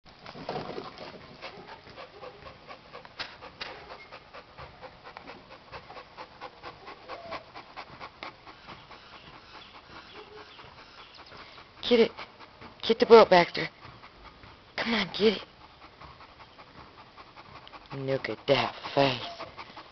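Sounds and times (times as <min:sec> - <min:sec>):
dog panting: 0:00.4 - 0:19.9.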